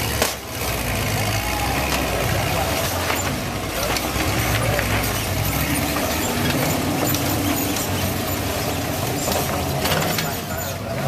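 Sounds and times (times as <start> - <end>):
buggy engine revving: 0.0 - 11.0.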